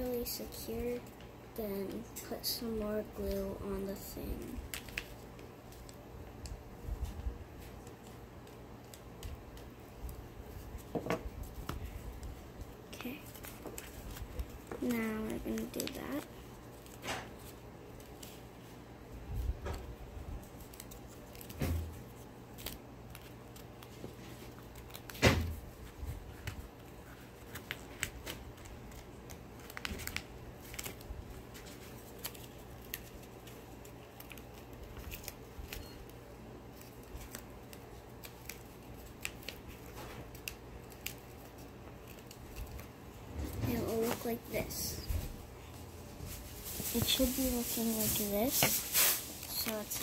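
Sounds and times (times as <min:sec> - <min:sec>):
paper rustling: 0:03.2 - 0:18.5, 0:20.4 - 0:50.0.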